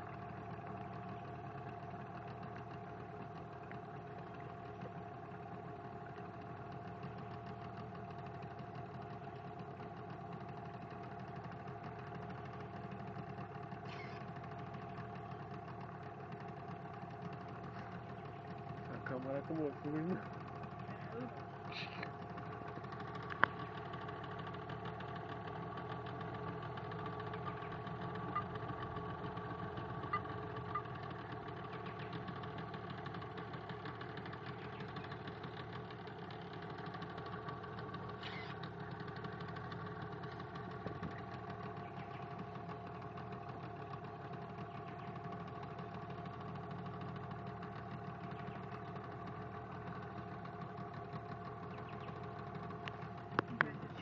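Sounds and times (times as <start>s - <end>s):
motorboat engine running: 0.0s - 54.0s.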